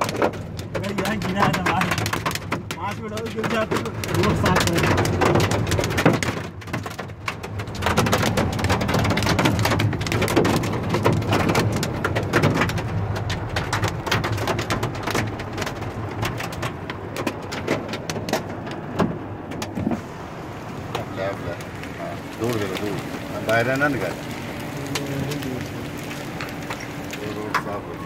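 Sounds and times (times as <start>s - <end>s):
hail tapping: 0.0s - 28.0s
heavy rain: 0.0s - 28.0s.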